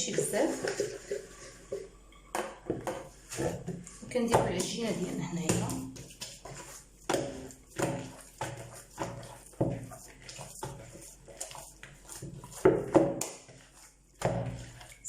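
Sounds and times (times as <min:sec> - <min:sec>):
hands pressing dough: 0:02.3 - 0:15.0.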